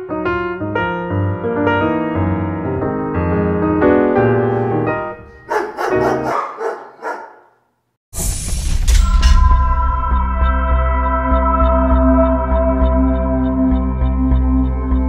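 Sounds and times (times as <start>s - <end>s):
piano music: 0.0s - 7.2s, 9.0s - 15.0s.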